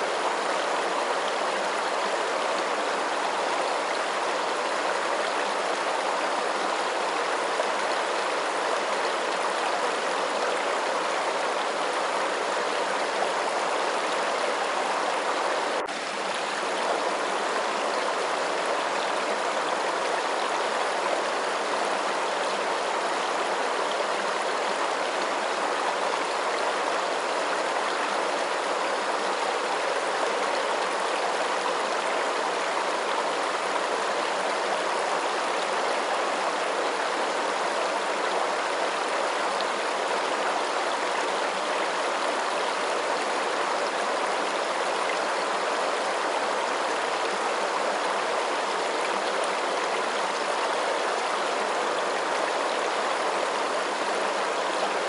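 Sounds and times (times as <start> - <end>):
rushing flowing water: 0.0 - 55.0.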